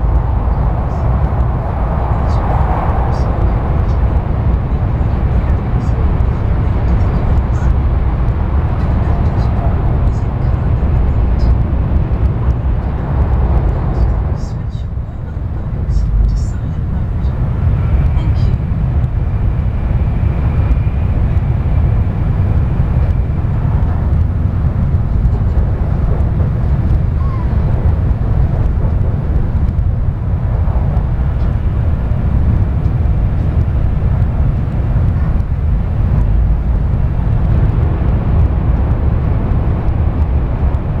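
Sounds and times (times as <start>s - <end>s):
train cabin low rumble: 0.0s - 41.0s.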